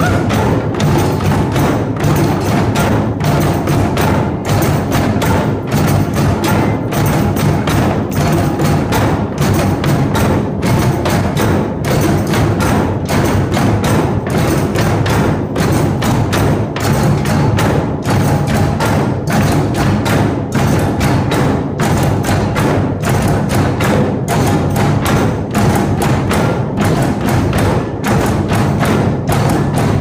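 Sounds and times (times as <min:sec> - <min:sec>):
hand drums and tambourines: 0:00.0 - 0:30.0.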